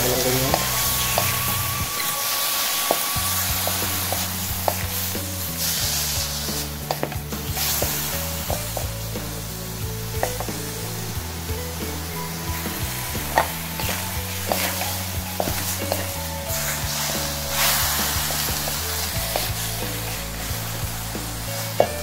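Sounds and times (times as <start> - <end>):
chicken sizzling in hot oil: 0.0 - 22.0
wooden spatula scraping a wok: 0.2 - 22.0.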